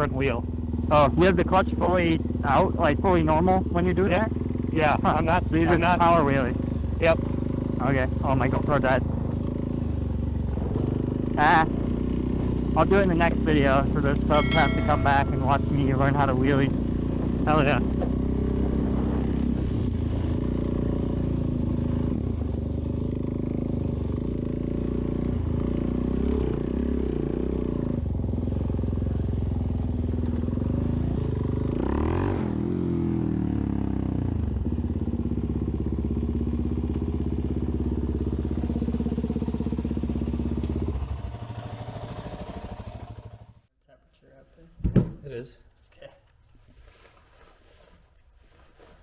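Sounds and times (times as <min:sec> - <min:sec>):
motorcycle engine droning: 0:00.0 - 0:43.7.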